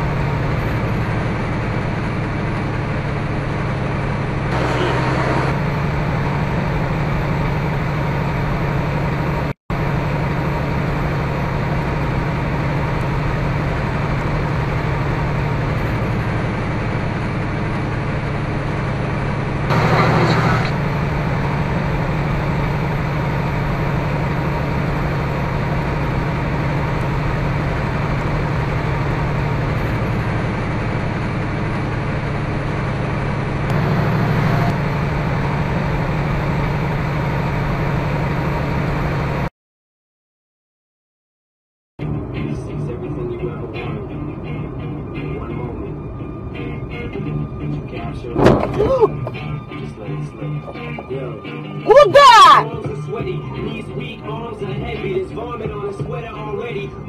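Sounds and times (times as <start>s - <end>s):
road noise: 0.0s - 39.5s, 42.0s - 57.0s
truck engine drone: 0.0s - 39.5s, 42.0s - 57.0s.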